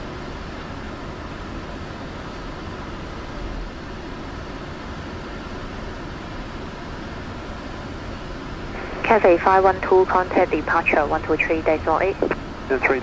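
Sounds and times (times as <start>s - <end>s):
jet engines idling: 0.1s - 13.0s.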